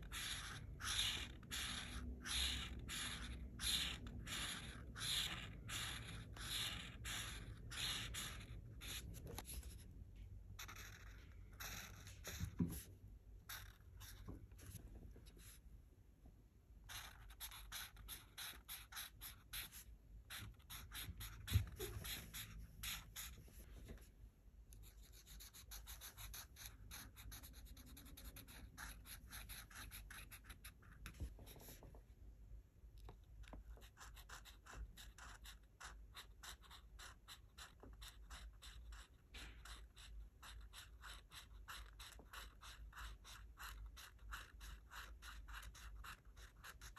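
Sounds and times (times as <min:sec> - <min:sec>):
marker rubbing on paper: 0:00.0 - 0:09.8, 0:10.6 - 0:15.6, 0:16.8 - 0:23.7, 0:24.8 - 0:31.9, 0:33.4 - 0:46.9.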